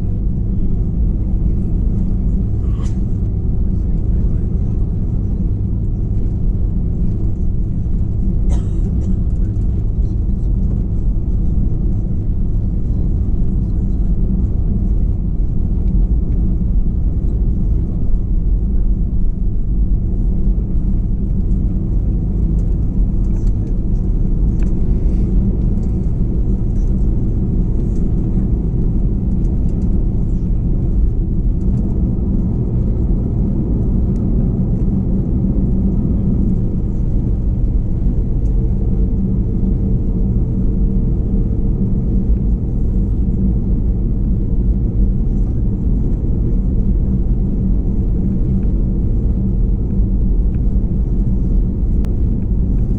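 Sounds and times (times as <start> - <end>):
jet engines idling rumble: 0.0 - 52.9.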